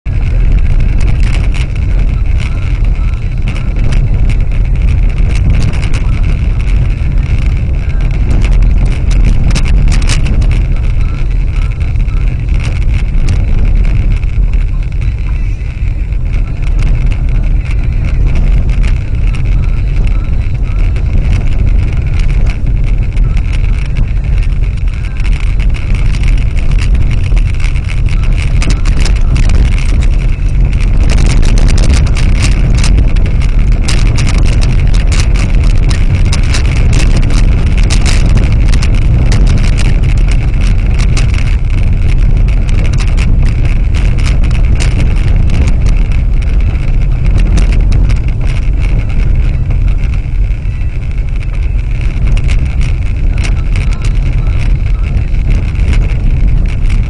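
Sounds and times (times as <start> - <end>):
tyres rumbling on gravel road: 0.0 - 57.0
gravel clicks and knocks: 0.1 - 57.0.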